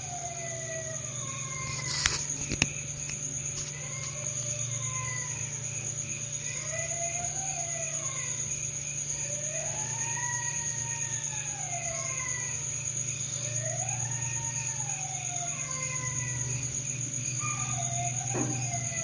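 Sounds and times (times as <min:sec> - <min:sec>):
crickets chirring: 0:00.0 - 0:19.0
high wavering wailing cries: 0:00.0 - 0:19.0.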